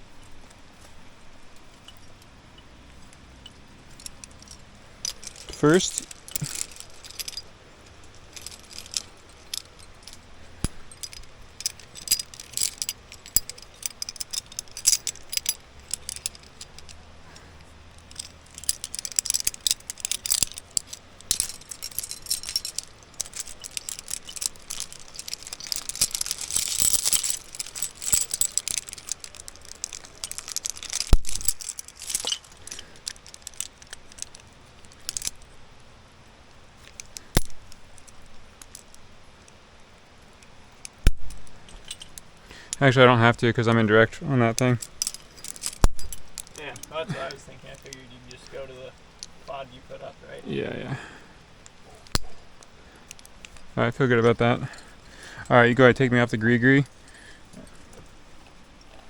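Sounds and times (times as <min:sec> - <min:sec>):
climbing hardware clinking: 0:01.5 - 0:35.6, 0:36.8 - 0:39.1, 0:40.8 - 0:50.1, 0:50.8 - 0:59.0.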